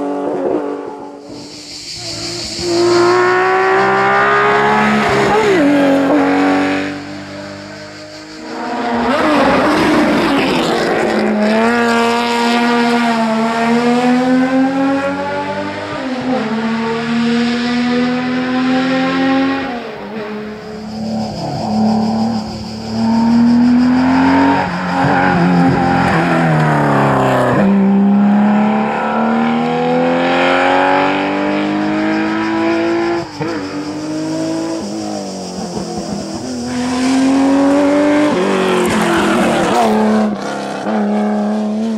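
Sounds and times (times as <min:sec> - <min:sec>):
rally car engines revving hard: 0:02.0 - 0:41.9.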